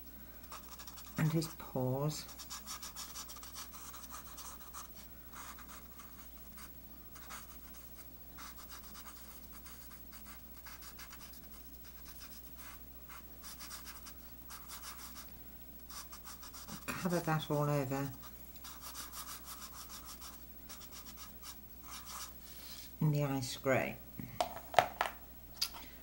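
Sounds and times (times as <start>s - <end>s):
marker scratching over paper: 0.4s - 15.3s, 15.9s - 22.4s.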